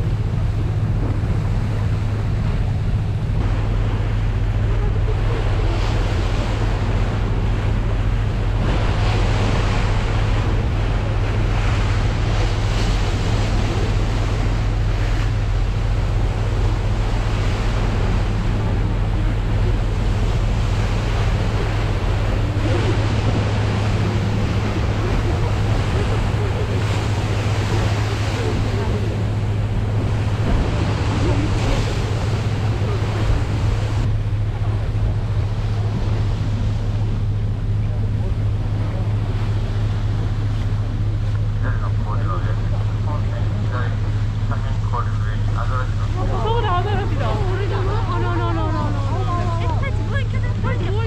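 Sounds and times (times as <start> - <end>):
wind on microphone: 0.0 - 44.6
low ship engine hum: 0.0 - 51.0
water rushing along hull: 0.0 - 51.0.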